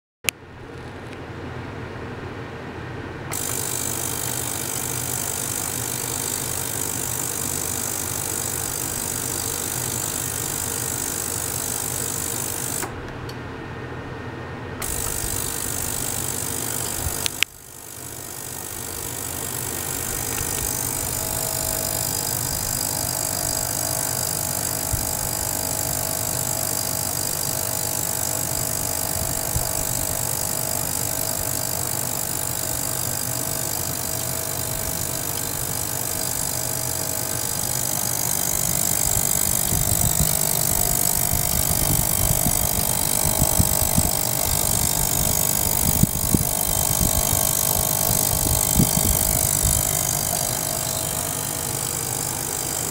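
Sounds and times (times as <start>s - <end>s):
ultrasonic cleaner buzzing hum: 0.3s - 52.9s.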